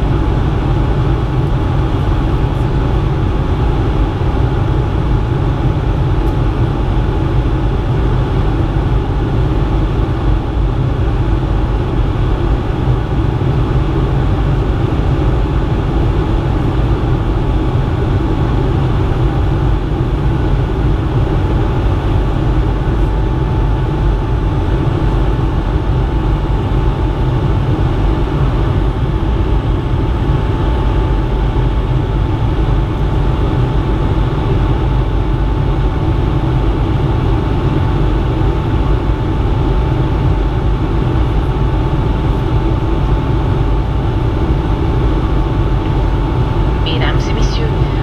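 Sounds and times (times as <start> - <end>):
airflow rushing in aircraft cabin: 0.0 - 48.0
jet engine whine: 0.0 - 48.0.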